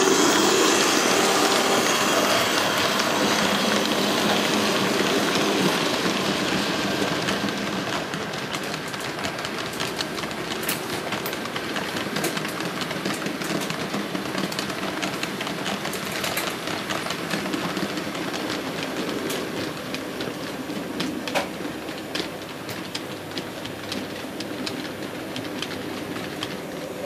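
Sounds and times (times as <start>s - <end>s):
model train wheels rattling on track: 0.0s - 27.0s.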